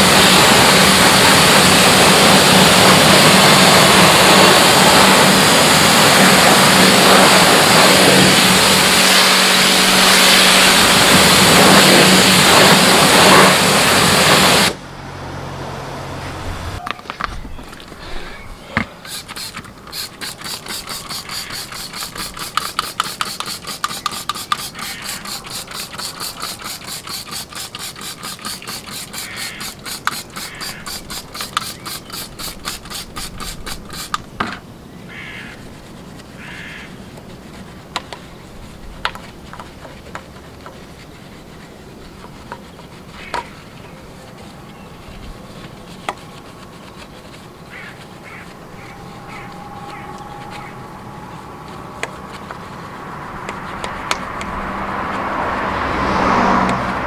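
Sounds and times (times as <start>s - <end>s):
spray bottle squirting: 0.1s - 14.8s, 17.0s - 34.4s, 35.3s - 50.7s, 53.4s - 55.7s
rubbing sounds: 1.2s - 14.8s, 16.3s - 57.0s.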